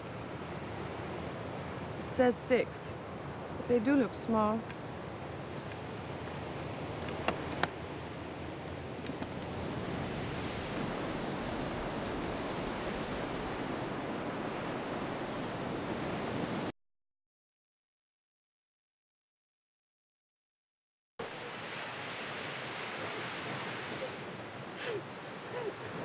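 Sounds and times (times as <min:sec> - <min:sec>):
surf washing up a beach: 0:00.0 - 0:16.7, 0:21.2 - 0:26.0.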